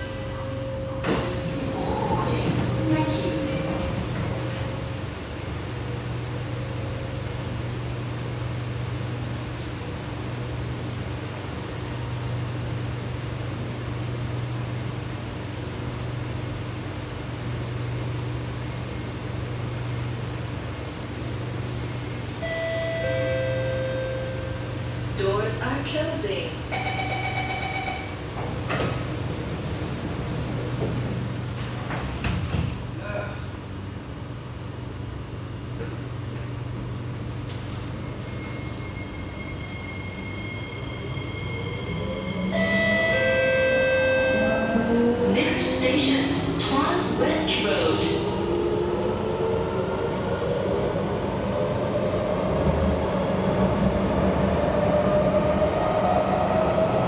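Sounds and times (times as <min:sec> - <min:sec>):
train air-conditioning hum and hiss: 0:00.0 - 0:57.0.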